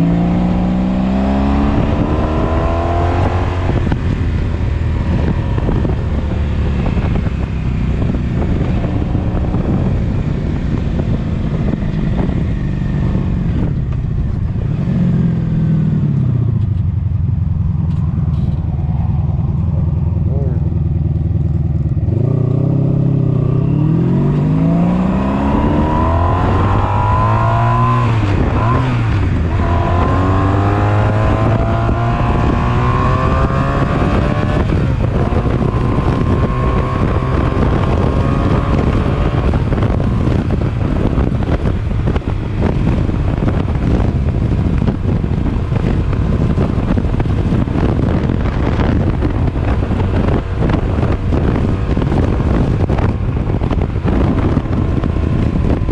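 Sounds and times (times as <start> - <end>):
motorcycle engine accelerating: 0.0 - 55.9
wind buffeting microphone: 0.0 - 55.9.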